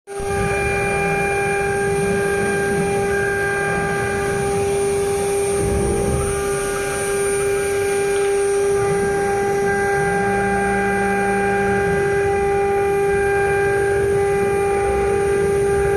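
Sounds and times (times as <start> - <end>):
router spindle whining: 0.1 - 15.9.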